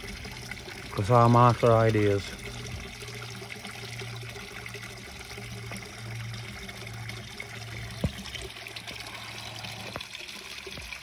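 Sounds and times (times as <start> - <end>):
water trickling into pond: 0.0 - 11.0.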